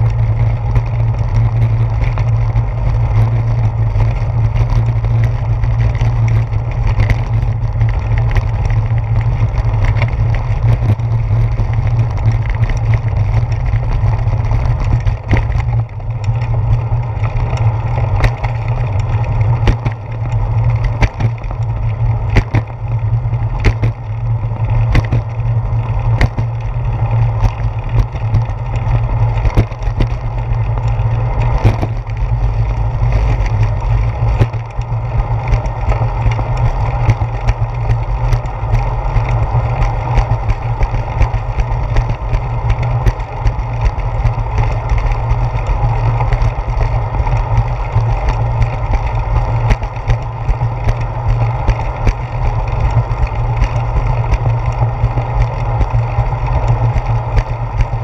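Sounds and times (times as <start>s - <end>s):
bicycle rolling over pavement: 0.0s - 58.0s
knocks and rattles over bumps: 0.0s - 58.0s
wind: 0.0s - 58.0s.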